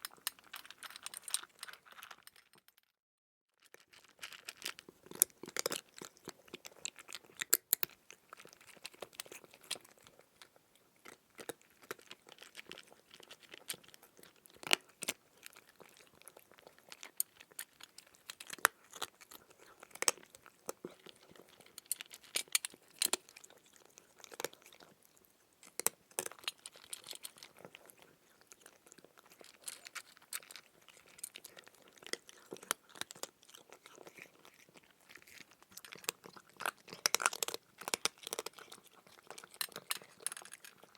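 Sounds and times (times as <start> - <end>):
crunchy food being chewed: 0.0 - 2.8, 3.6 - 40.9.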